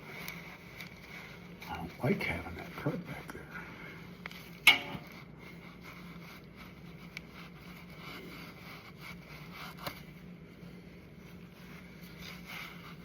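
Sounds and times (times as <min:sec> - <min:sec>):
faint scraping and wiping: 0:00.0 - 0:13.0
steady low hum: 0:00.0 - 0:13.0.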